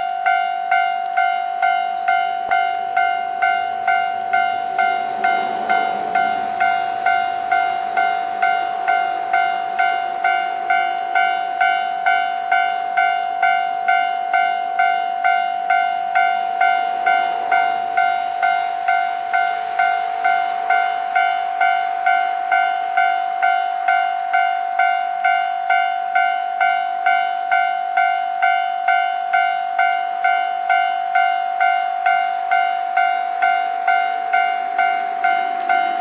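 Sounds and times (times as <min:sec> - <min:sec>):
level-crossing warning bell: 0:00.0 - 0:36.0.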